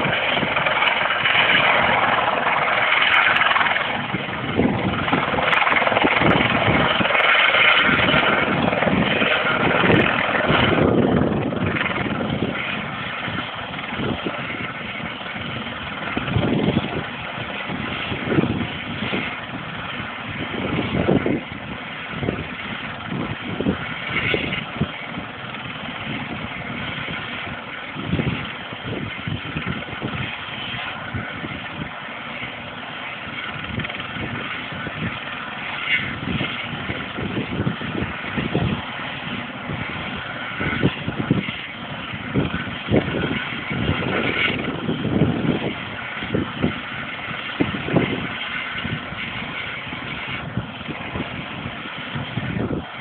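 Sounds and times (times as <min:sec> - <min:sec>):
helicopter engine idling: 0:00.0 - 0:53.0
wind buffeting microphone: 0:00.0 - 0:53.0.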